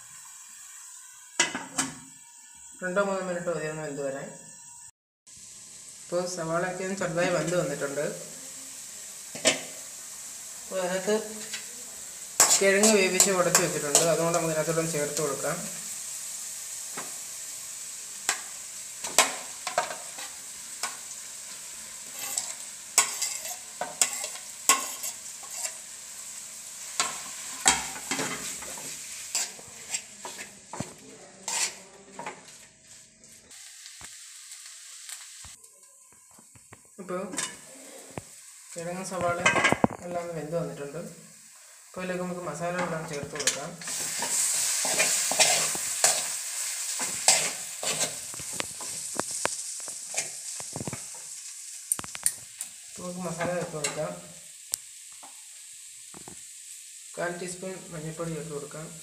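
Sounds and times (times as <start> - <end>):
vegetables sizzling in a pan: 0.0 - 59.0.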